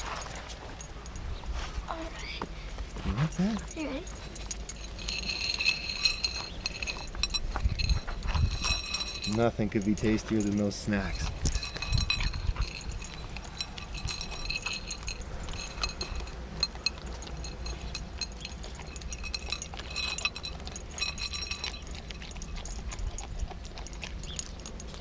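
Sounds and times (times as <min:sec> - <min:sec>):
puppy crunching treats: 0:02.8 - 0:25.0.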